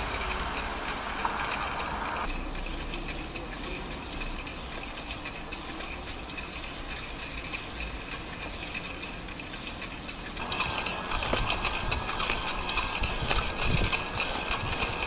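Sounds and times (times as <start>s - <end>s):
outdoor street background noise: 0.0s - 15.0s.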